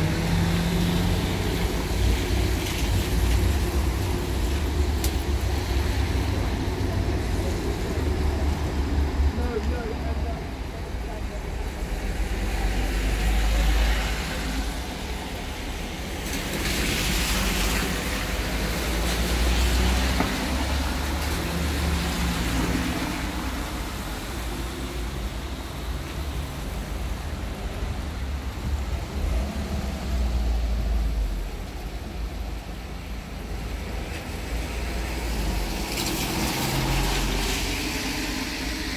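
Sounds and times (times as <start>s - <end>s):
tyres hissing on wet road: 0.0s - 38.9s.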